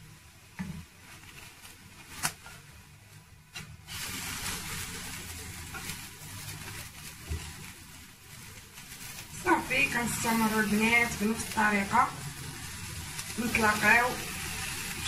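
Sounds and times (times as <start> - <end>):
pancake sizzling in pan: 0.0 - 15.0.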